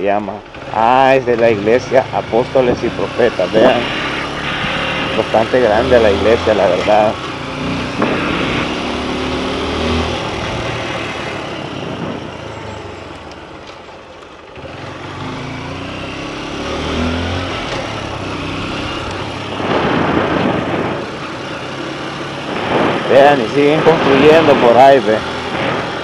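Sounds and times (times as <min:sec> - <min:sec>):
rush of noise: 0:00.0 - 0:13.0, 0:15.9 - 0:26.0.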